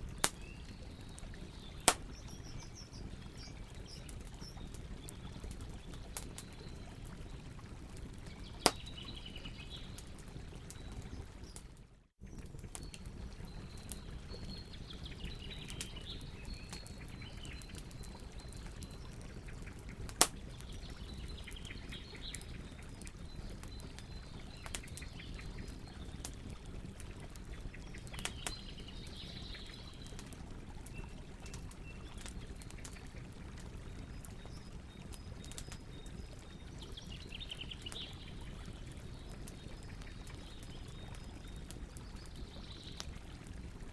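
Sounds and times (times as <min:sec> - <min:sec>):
birds chirping faintly: 0:00.0 - 0:43.6
campfire crackling and popping: 0:00.0 - 0:43.9.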